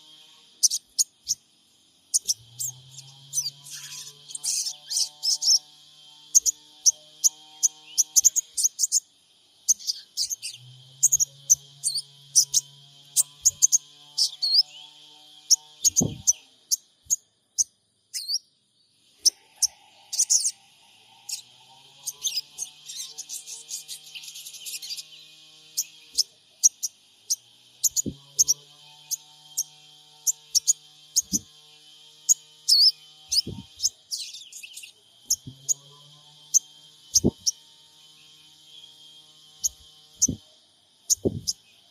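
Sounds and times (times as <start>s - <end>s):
bird chirping: 0.0s - 41.9s
faint low hum: 0.0s - 41.9s.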